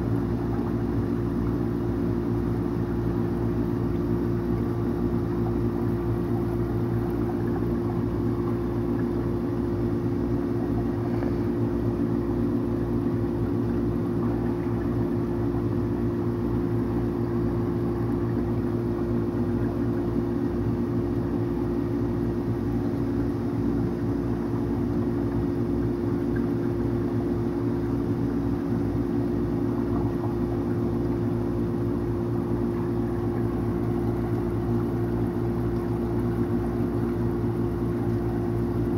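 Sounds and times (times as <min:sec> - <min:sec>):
aquarium pump humming: 0:00.0 - 0:38.9.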